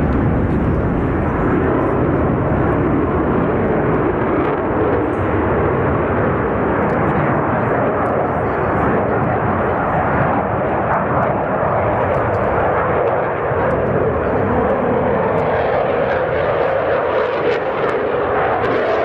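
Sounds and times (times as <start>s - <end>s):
jet engine rumble overhead: 0.0s - 19.0s.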